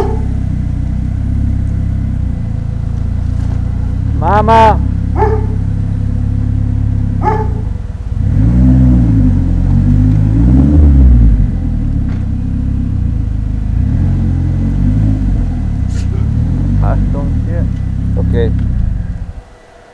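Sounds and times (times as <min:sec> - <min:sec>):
trike engine revving and idling: 0:00.0 - 0:19.9.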